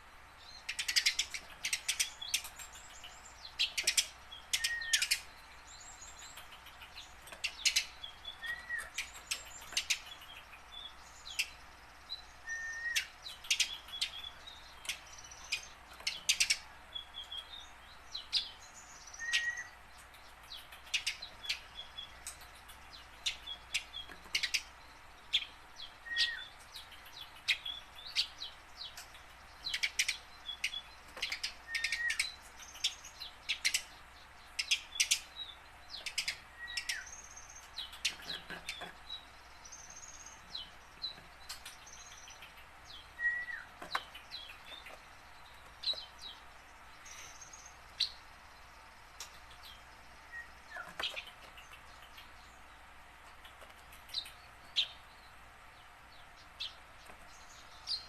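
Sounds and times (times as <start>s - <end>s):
sparrow chirping: 0.0s - 58.0s.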